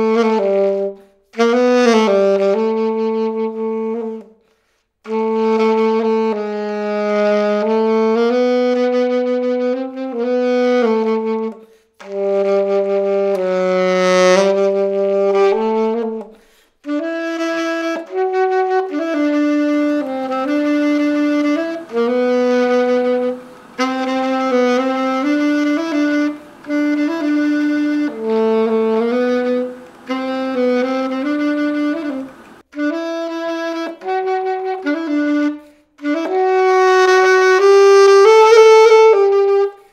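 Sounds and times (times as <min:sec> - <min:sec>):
solo saxophone playing: 0:00.0 - 0:39.9.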